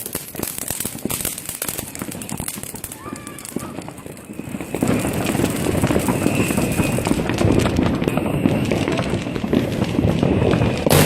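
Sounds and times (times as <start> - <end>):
fireworks and firecrackers popping: 0.0 - 11.0.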